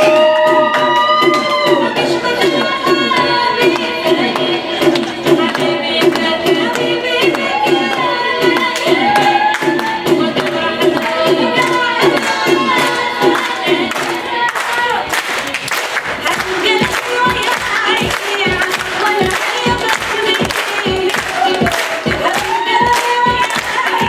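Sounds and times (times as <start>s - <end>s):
song over loudspeakers: 0.0s - 24.0s.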